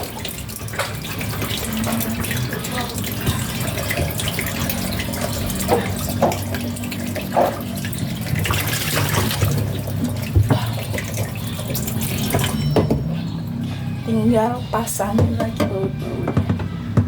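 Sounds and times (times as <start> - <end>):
water running from tap: 0.0 - 17.0.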